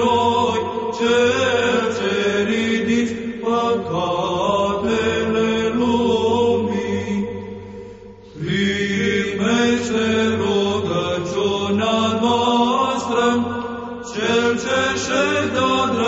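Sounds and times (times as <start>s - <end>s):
voices chanting: 0.0s - 7.4s, 8.3s - 16.0s.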